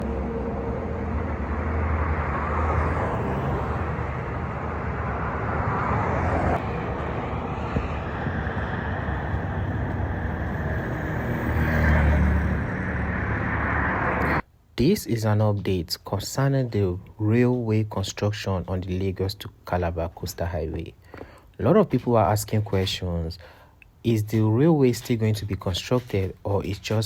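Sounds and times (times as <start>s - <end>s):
highway traffic rumble: 0.0s - 14.6s, 16.6s - 27.0s.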